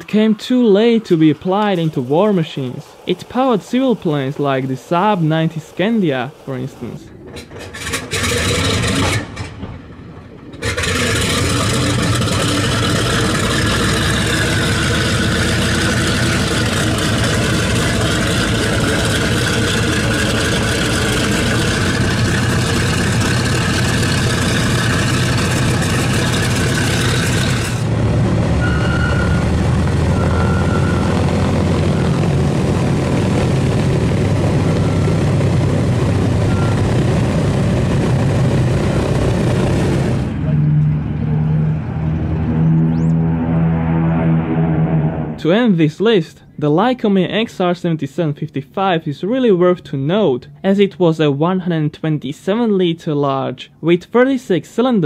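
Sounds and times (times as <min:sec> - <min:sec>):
deep engine drone: 0:00.0 - 0:45.7
radial piston engines rumbling: 0:00.0 - 0:46.6.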